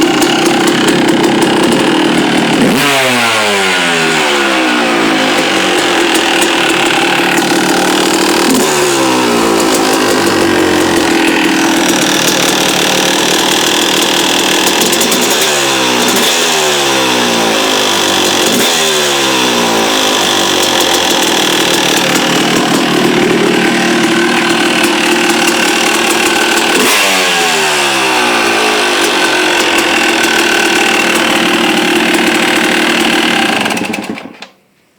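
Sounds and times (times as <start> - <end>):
motocross engine idling: 0.0 - 34.2.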